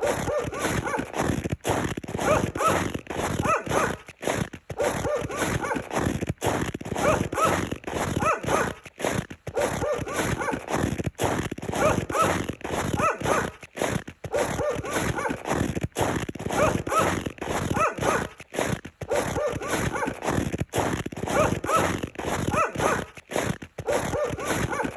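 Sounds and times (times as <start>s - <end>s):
footsteps crunching in snow: 0.0s - 24.9s.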